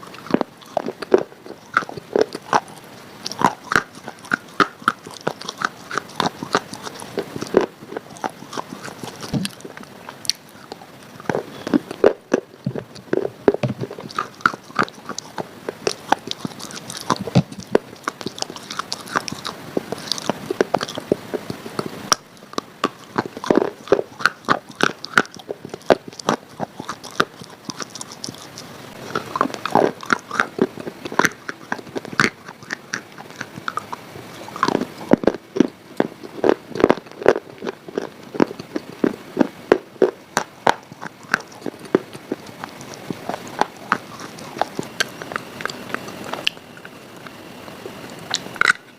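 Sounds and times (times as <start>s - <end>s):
crunchy biting and chewing: 0.0s - 48.9s.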